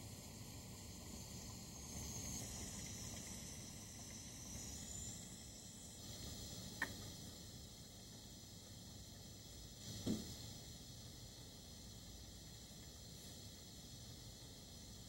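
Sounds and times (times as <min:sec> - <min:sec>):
pressure canner hissing: 0:00.0 - 0:15.0.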